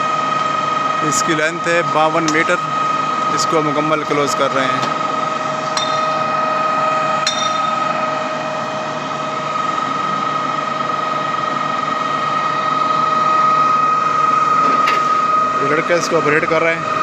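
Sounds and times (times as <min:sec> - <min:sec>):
high steady whine: 0:00.0 - 0:17.0
pump engine and hydraulics: 0:00.0 - 0:17.0.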